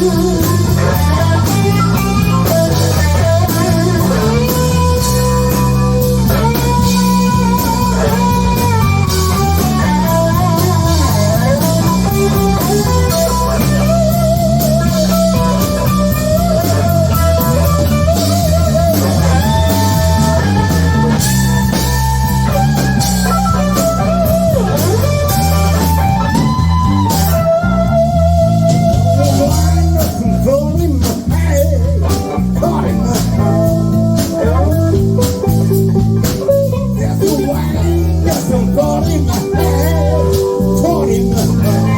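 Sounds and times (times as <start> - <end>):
drums: 0.0 - 41.9
lead guitar melody: 0.0 - 41.9
walking bass line: 0.0 - 41.9.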